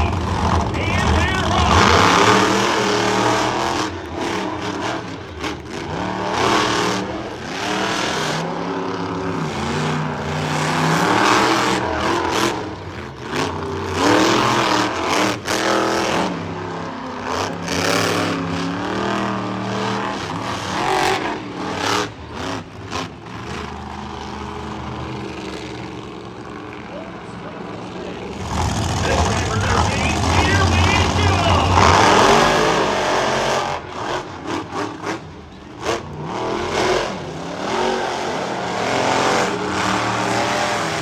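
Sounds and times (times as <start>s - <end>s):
monster truck engines revving: 0.0s - 41.0s.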